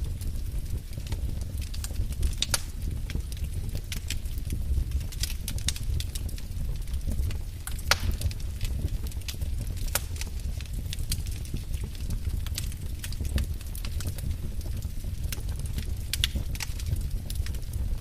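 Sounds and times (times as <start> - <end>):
low rumble of fire: 0.0 - 18.0
wood fire crackling and popping: 0.0 - 18.0.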